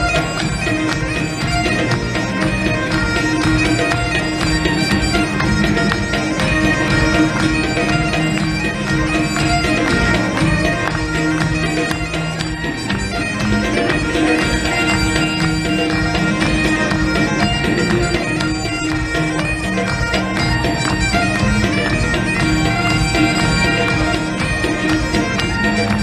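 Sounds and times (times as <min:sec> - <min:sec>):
bagpipes over a drone: 0:00.0 - 0:26.0
fiddle: 0:00.0 - 0:26.0.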